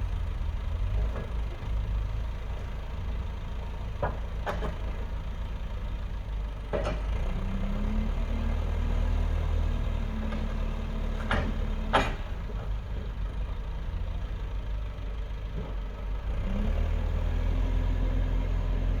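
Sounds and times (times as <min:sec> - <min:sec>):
heavy vehicle engine droning: 0:00.0 - 0:19.0.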